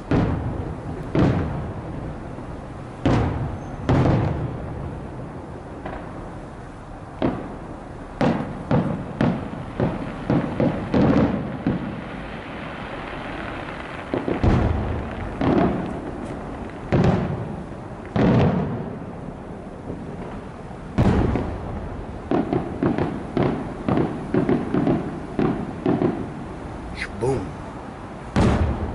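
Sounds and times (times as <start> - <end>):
fireworks booming bangs: 0.0 - 6.4, 7.0 - 28.9
crackling hiss of fireworks: 0.0 - 28.9.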